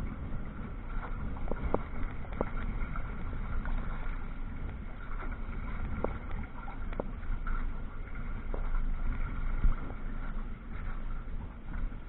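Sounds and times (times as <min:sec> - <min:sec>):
wind buffeting the microphone: 0:00.0 - 0:12.0
water splashing against canoe hull: 0:00.9 - 0:11.2.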